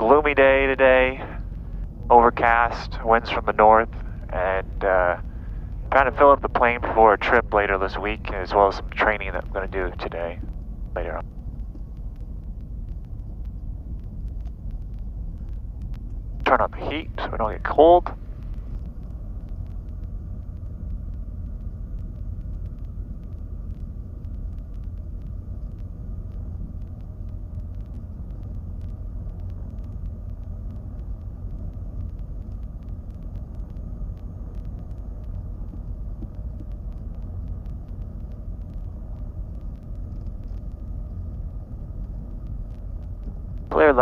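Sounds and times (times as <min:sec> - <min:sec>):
piston aircraft engines rumbling: 0:00.0 - 0:44.0.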